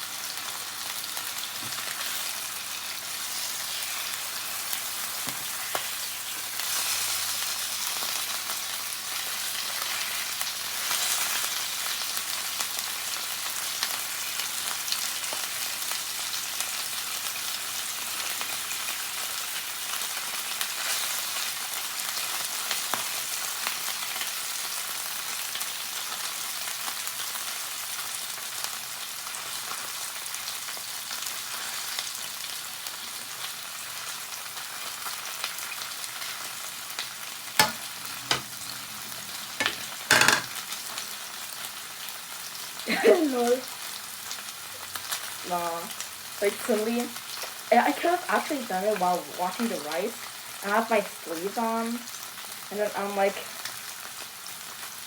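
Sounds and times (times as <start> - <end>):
fish sizzling in butter: 0.0 - 55.0.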